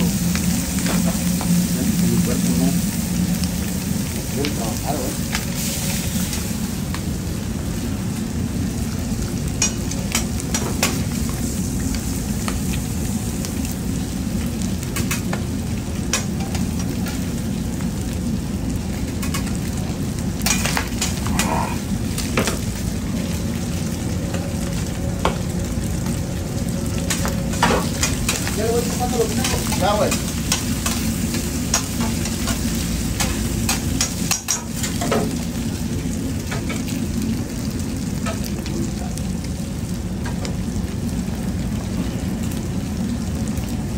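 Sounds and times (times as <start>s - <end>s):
food sizzling on a griddle: 0.0s - 43.9s
low steady rumble: 0.0s - 43.9s.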